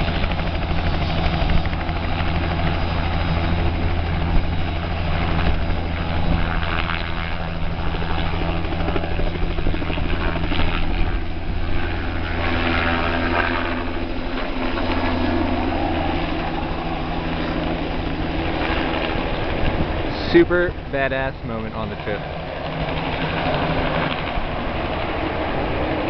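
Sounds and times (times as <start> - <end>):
helicopter rotor and engine: 0.0 - 26.0.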